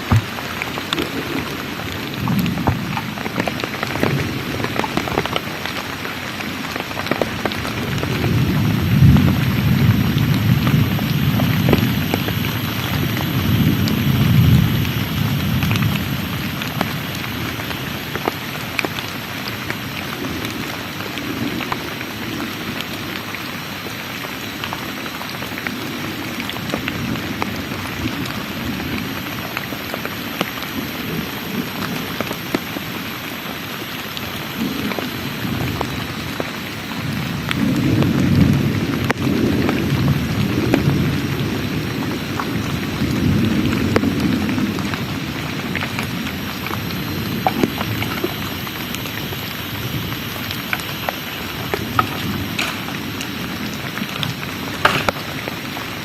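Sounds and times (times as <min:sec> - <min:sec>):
thunder rumbling: 0:00.0 - 0:23.1, 0:24.7 - 0:56.0
heavy rain falling: 0:00.0 - 0:56.0
raindrops ticking on a surface: 0:00.0 - 0:56.0.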